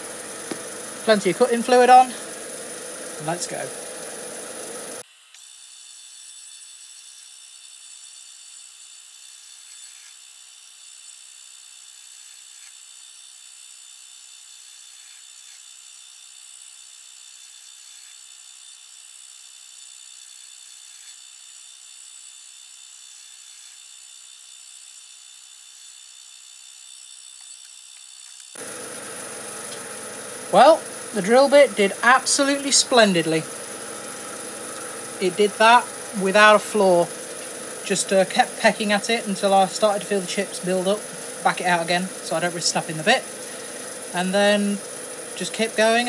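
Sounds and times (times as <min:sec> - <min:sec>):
lathe drilling whine and hiss: 0:00.0 - 0:46.0.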